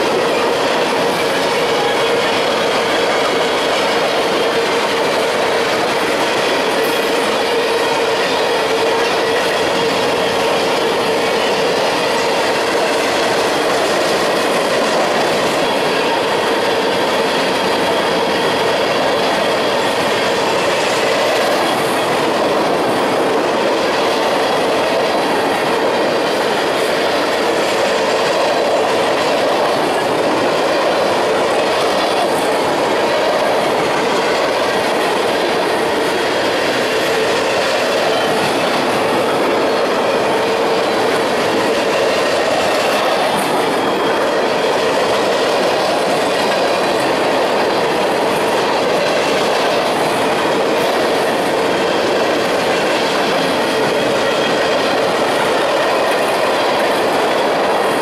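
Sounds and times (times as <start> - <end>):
freight train cars rolling past: 0.0 - 58.0
steel wheels on rail: 0.0 - 58.0.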